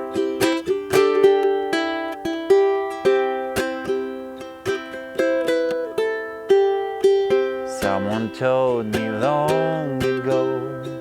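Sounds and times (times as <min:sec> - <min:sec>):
ukulele strumming: 0:00.0 - 0:11.0.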